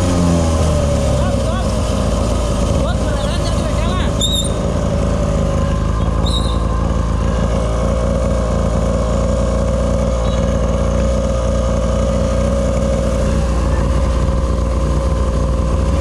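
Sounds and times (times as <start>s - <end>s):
atv engine droning: 0.0s - 16.0s.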